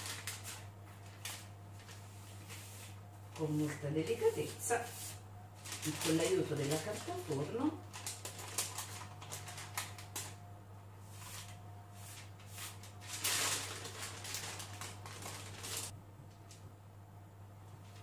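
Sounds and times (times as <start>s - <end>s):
baking paper rustling: 0.0s - 10.4s, 11.0s - 16.0s.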